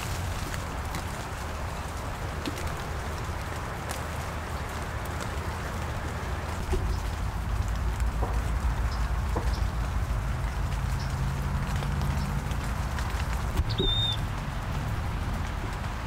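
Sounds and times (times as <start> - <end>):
light rain pattering: 0.0 - 16.0.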